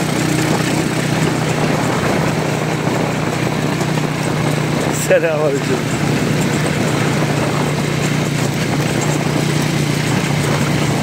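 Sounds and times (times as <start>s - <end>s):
motorcycle engine droning: 0.0s - 11.0s
wind and road noise: 0.0s - 11.0s.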